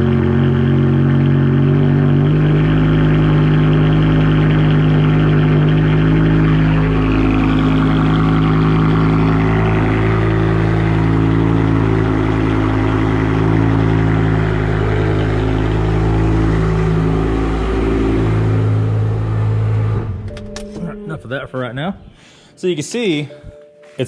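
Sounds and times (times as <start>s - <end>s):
car engine idling rough: 0.0s - 22.5s.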